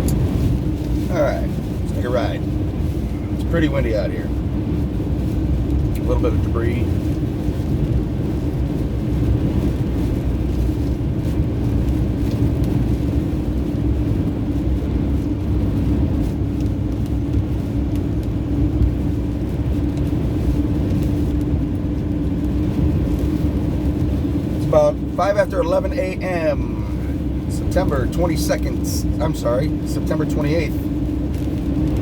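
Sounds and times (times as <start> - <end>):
car engine and road rumble: 0.0 - 32.0
constant hum: 0.0 - 32.0.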